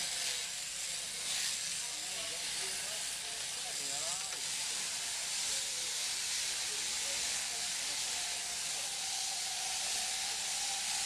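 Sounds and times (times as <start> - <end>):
shearing clippers hissing: 0.0 - 11.0.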